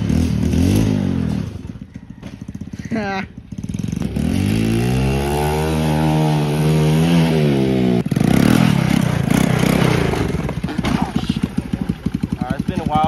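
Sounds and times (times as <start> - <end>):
quad engine running: 0.0 - 13.0.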